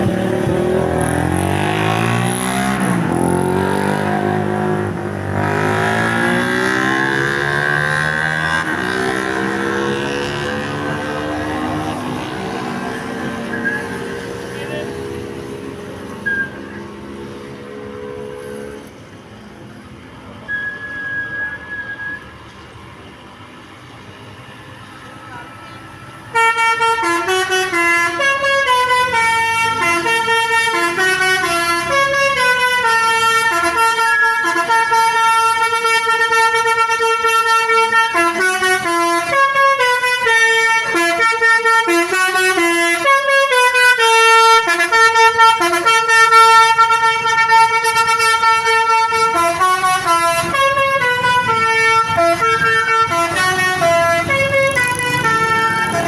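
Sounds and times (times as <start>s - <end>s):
multi-tone bus horn playing tune: 0.0s - 19.0s, 26.3s - 56.0s.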